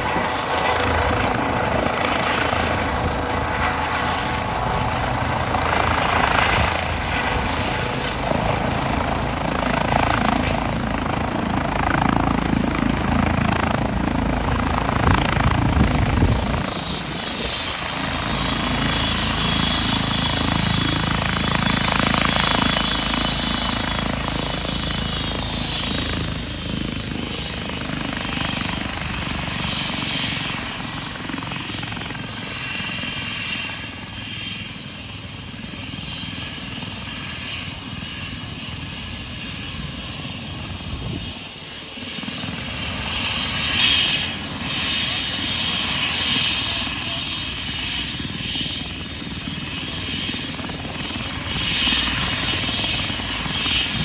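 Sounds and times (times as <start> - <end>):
helicopter rotor beat: 0.0 - 54.0
turbine whine: 0.0 - 54.0.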